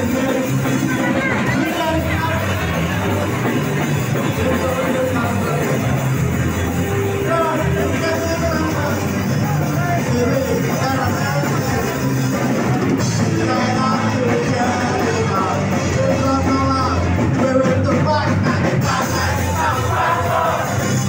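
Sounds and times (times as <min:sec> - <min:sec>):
live rock band playing: 0:00.0 - 0:21.0
person shouting and singing: 0:00.0 - 0:21.0.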